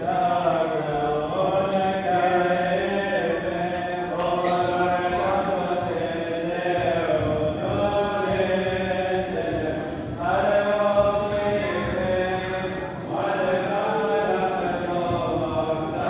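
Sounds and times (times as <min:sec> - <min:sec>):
women's choir chanting a hymn: 0:00.0 - 0:16.0.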